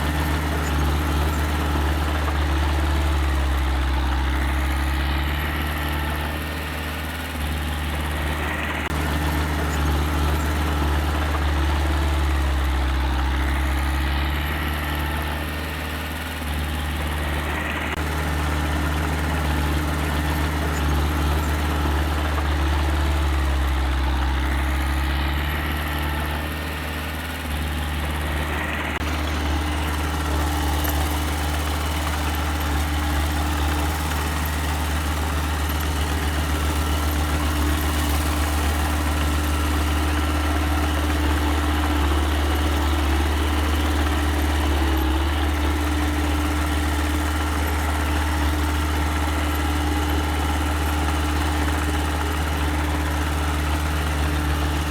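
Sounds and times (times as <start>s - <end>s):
earthmoving machine engine running: 0.0s - 54.9s.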